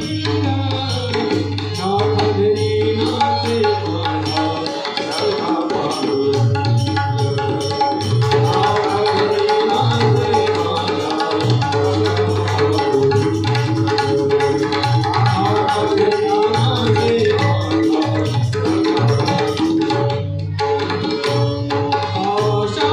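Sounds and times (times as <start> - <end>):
hand drums playing rhythm: 0.0 - 22.9.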